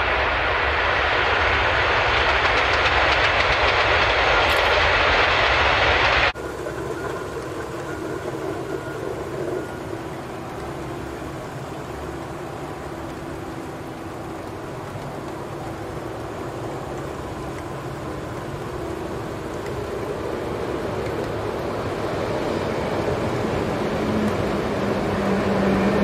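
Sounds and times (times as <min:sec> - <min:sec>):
electric locomotive rumbling: 0:00.0 - 0:26.0.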